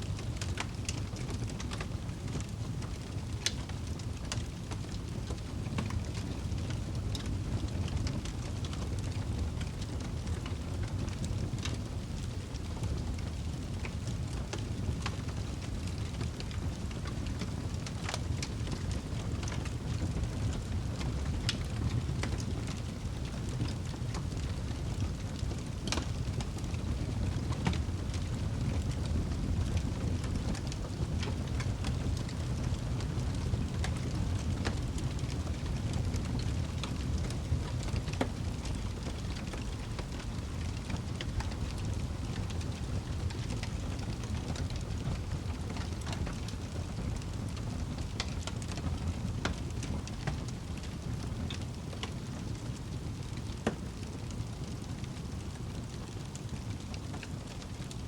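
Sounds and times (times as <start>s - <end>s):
wood fire burning: 0.0s - 58.0s.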